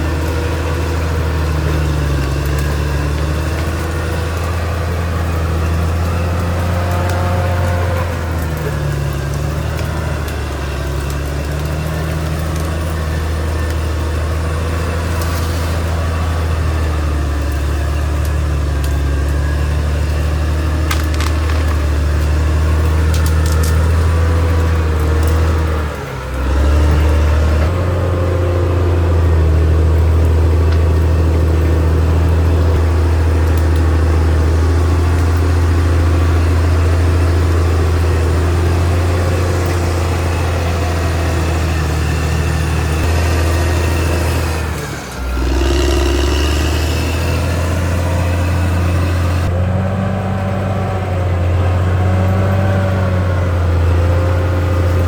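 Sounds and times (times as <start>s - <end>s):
wood snapping and crackling: 0.0s - 27.8s, 28.9s - 49.5s
bulldozer diesel engine running: 0.0s - 55.0s.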